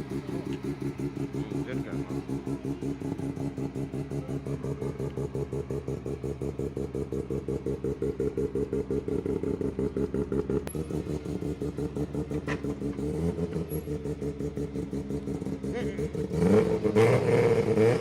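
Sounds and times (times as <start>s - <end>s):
car engine idling lumpily: 0.0s - 17.0s.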